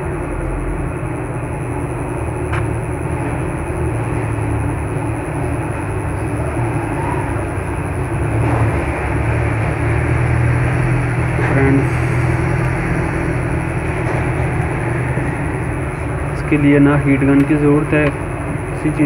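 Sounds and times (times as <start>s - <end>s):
low hum and rumble: 0.0s - 19.0s.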